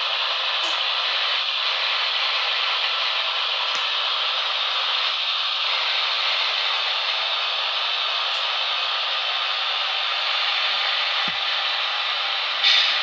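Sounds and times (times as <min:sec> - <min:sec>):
model train wheels whirring: 0:00.0 - 0:13.0.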